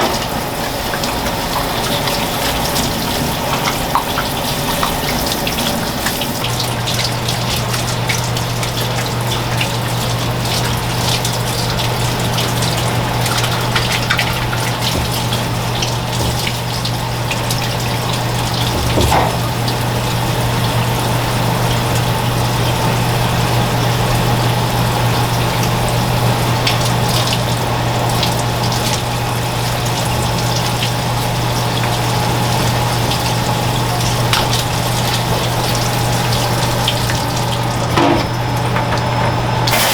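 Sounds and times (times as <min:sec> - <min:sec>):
water running from tap: 0:00.0 - 0:39.9.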